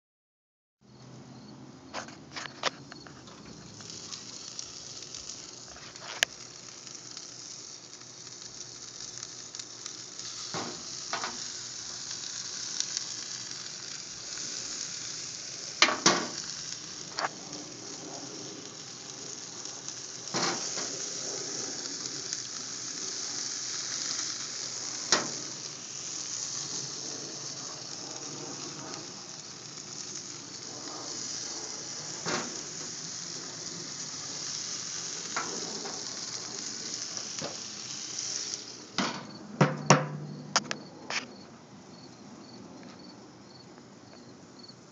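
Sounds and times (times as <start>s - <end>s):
meat sizzling on a grill: 1.4s - 43.6s, 44.6s - 44.9s
sharp pops from grilling meat: 1.9s - 41.5s.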